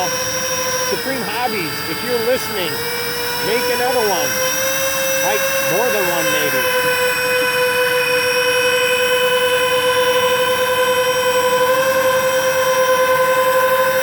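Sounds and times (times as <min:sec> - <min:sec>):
model plane electric fans whining: 0:00.0 - 0:14.0.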